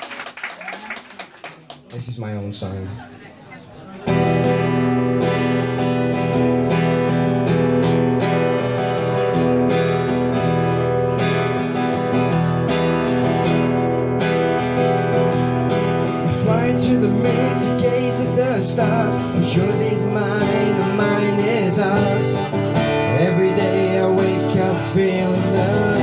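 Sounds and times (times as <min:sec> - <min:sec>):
acoustic guitar strumming chords: 0:04.0 - 0:26.0.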